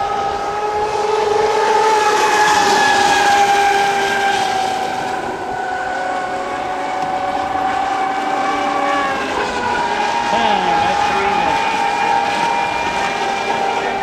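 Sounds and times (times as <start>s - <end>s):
electric race boats whining: 0.0s - 14.0s.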